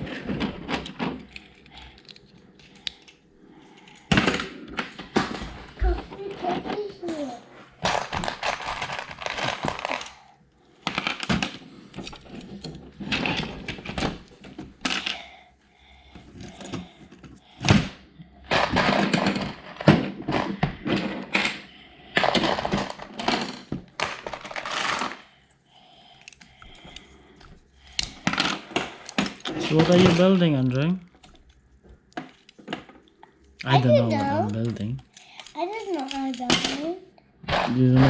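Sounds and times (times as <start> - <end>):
plastic bricks clattering: 0.0 - 15.3, 16.4 - 25.3, 26.2 - 38.0.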